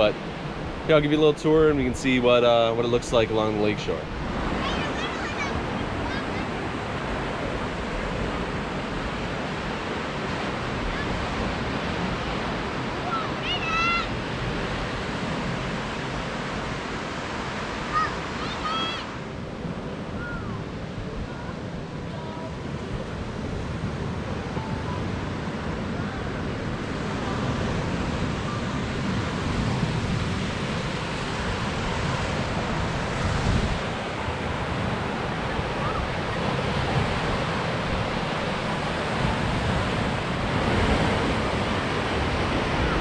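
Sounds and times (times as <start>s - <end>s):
waves washing onto beach: 0.0s - 43.0s
wind buffeting microphone: 0.0s - 43.0s.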